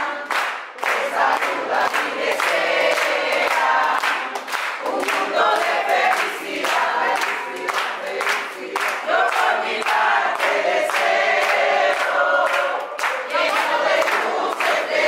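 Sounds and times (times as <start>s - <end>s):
crowd singing birthday song: 0.0s - 15.0s
rhythmic hand clapping: 0.0s - 15.0s.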